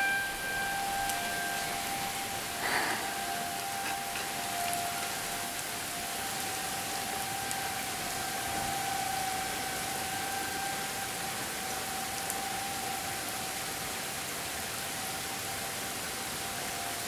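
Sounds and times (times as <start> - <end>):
distant warning sirens: 0.0 - 17.0
rain hissing: 0.0 - 17.0.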